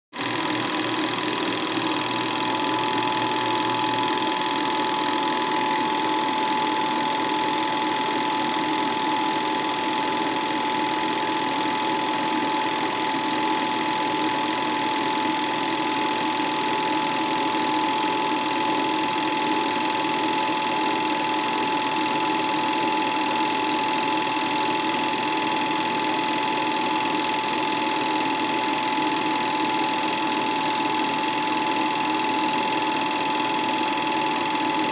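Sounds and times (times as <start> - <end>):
film projector whirring: 0.1 - 34.9.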